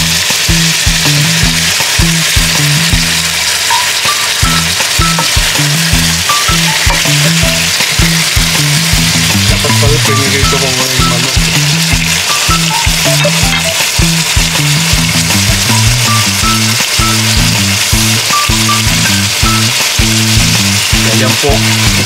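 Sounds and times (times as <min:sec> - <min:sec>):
background music with steady beat: 0:00.0 - 0:22.0
chicken sizzling in hot oil: 0:00.0 - 0:22.0.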